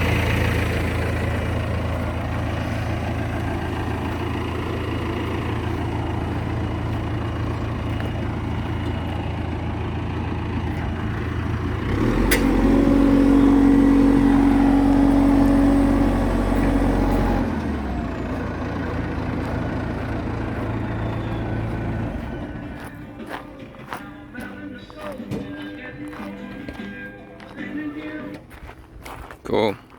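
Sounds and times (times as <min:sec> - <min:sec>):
diesel engine idling and revving: 0:00.0 - 0:29.9.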